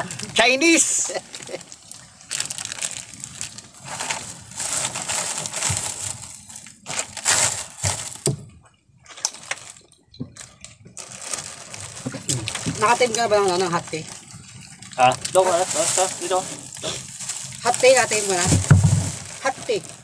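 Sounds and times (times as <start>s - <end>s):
plastic wrappers crinkling: 0.0s - 8.4s, 9.1s - 20.0s.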